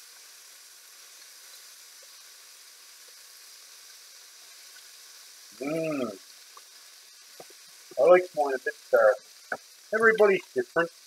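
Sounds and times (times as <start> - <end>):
sausages sizzling in a pan: 0.0 - 11.0.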